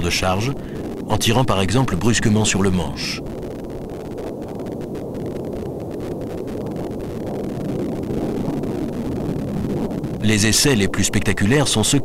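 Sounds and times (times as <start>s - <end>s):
jet aircraft rumble: 0.0s - 12.0s.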